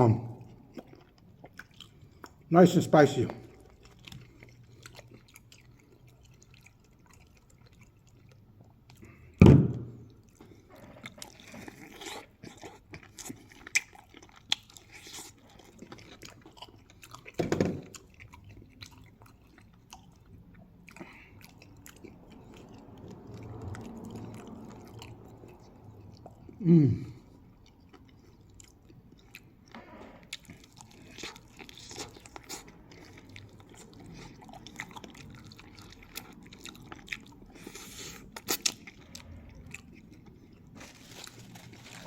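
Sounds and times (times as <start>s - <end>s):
person chewing crispy food: 0.3s - 9.4s, 10.0s - 42.0s.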